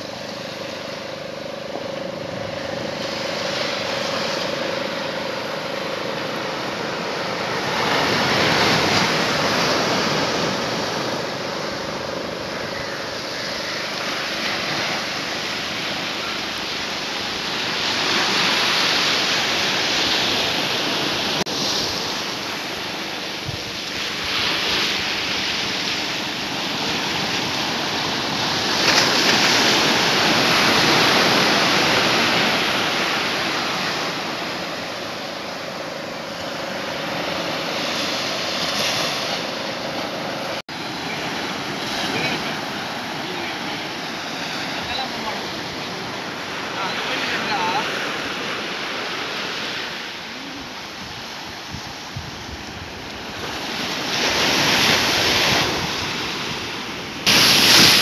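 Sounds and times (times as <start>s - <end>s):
sea waves breaking on a beach: 0.0s - 58.0s.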